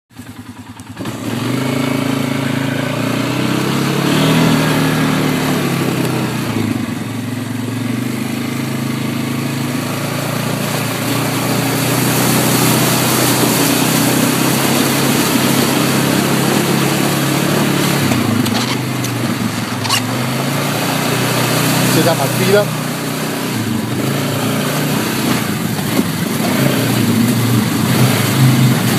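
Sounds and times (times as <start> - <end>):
off-road vehicle engine running: 0.1 - 28.9.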